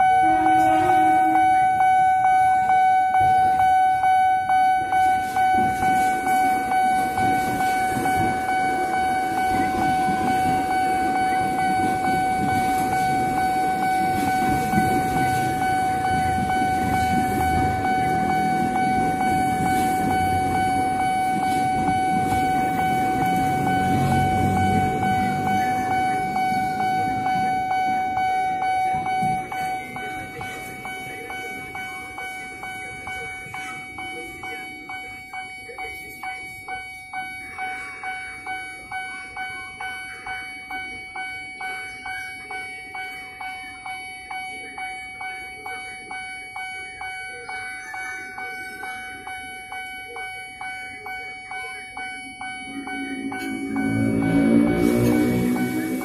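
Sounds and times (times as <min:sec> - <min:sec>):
crossing warning bell ringing: 0:00.0 - 0:56.0
electric train rumbling: 0:00.0 - 0:56.0.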